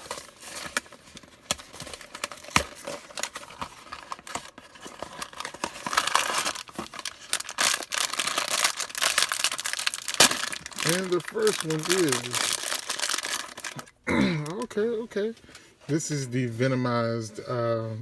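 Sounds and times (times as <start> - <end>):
packaging crackling and crinkling: 0.0 - 14.8.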